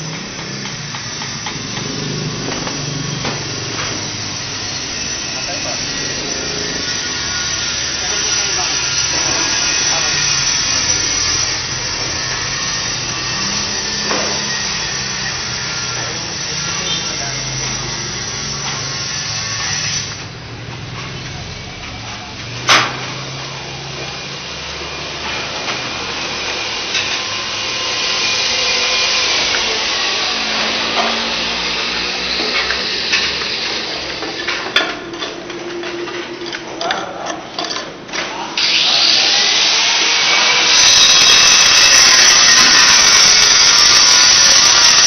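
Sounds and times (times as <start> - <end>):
power tool running: 0.0 - 34.9, 38.6 - 45.0.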